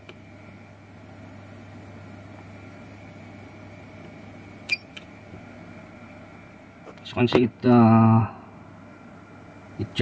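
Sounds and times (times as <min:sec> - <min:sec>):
cooling fans whirring hum: 0:00.0 - 0:10.0.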